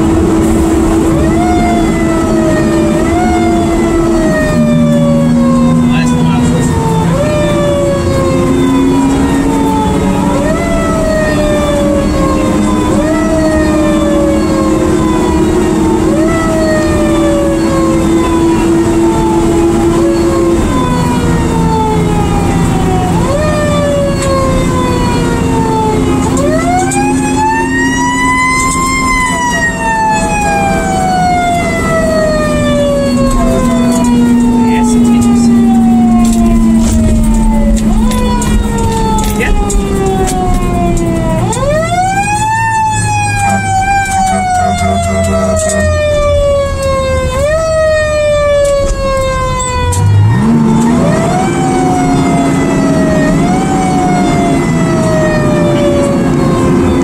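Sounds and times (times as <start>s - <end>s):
fire engine siren: 0.0s - 57.0s
truck engine running: 0.0s - 57.0s.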